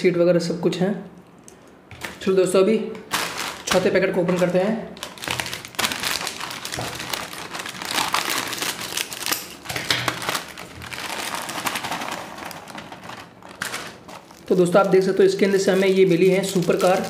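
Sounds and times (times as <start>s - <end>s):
plastic packet crinkling: 3.0s - 17.0s.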